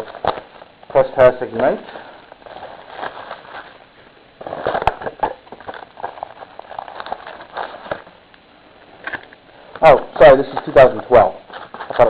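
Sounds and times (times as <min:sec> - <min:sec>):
cardboard packaging rustling: 0:00.0 - 0:08.2, 0:08.9 - 0:12.0.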